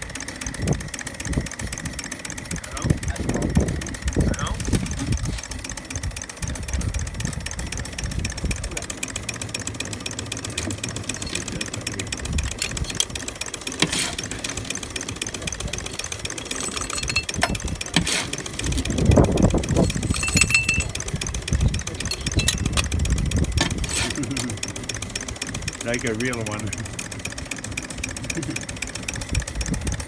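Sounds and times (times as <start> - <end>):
model steam locomotive ticking and hissing: 0.0 - 30.0.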